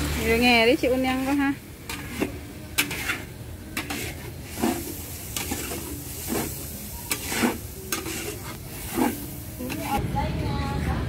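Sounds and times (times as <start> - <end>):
oil sizzling: 0.0 - 10.0
metal spatula scraping a wok: 0.9 - 10.0.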